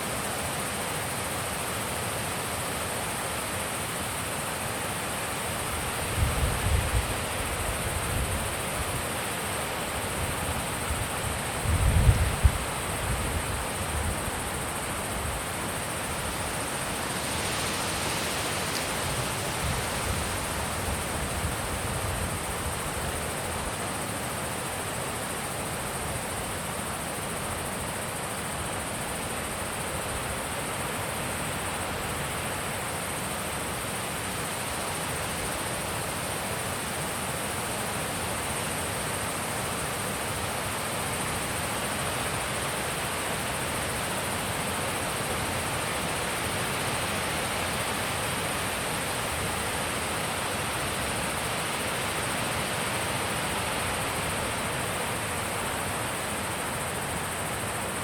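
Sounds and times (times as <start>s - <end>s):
thin high-pitched hiss: 0.0s - 58.0s.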